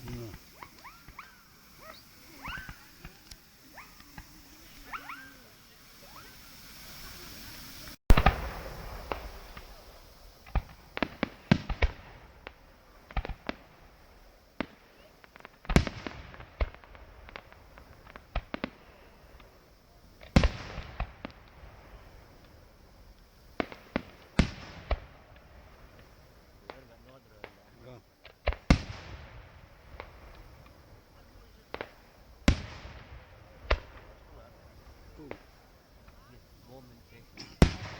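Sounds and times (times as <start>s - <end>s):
fireworks loud bangs: 0.0s - 37.9s
fireworks pops and cracks: 0.0s - 37.9s.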